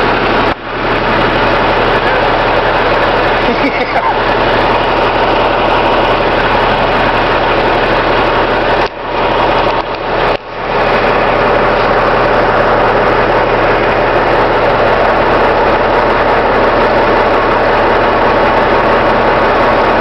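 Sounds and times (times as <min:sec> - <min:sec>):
garbage truck engine idling: 0:00.0 - 0:20.0.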